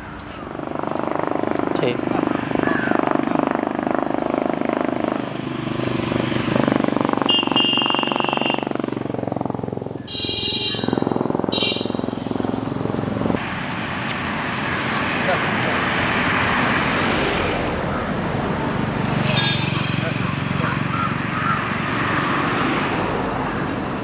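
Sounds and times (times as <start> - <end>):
vehicle engines passing: 0.0 - 24.0.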